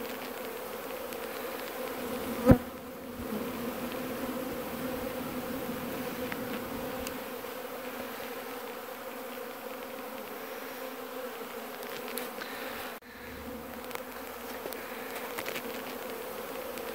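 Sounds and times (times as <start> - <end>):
honeybees buzzing: 0.0 - 16.9.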